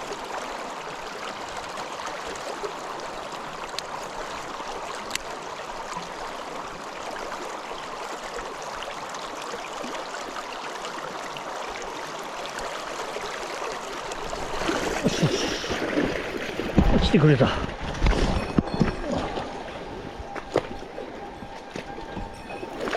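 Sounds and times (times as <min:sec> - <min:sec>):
mountain stream flowing: 0:00.0 - 0:22.9.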